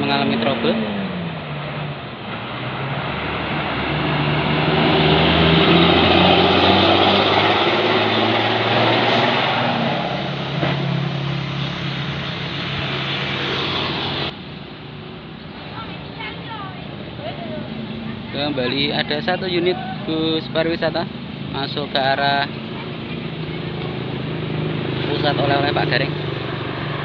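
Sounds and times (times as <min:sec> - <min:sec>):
bus diesel engine running: 0:01.9 - 0:27.0.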